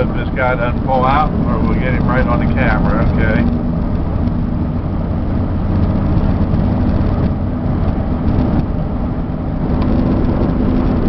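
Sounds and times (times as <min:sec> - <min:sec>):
road and tyre noise: 0:00.0 - 0:11.0
truck engine running: 0:00.0 - 0:11.0.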